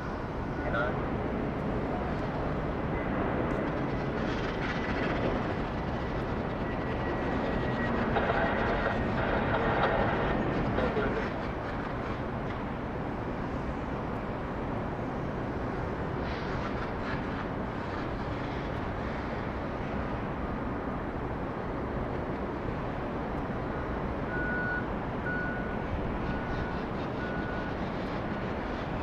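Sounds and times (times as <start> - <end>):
jet noise roar: 0.0 - 29.0.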